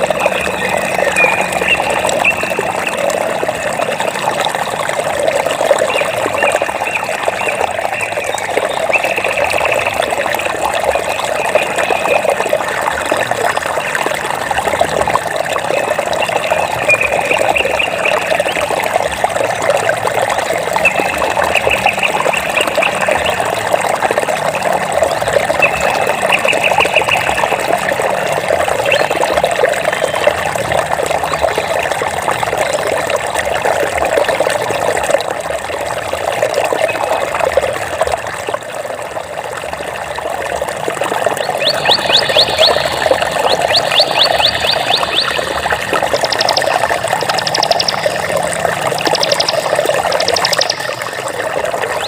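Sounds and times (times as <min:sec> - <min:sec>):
water trickling and babbling: 0:00.0 - 0:52.0.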